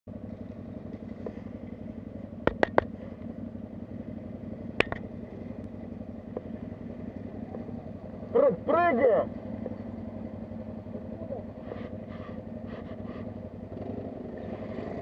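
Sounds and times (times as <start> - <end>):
quad bike engine running: 0.1 - 15.0.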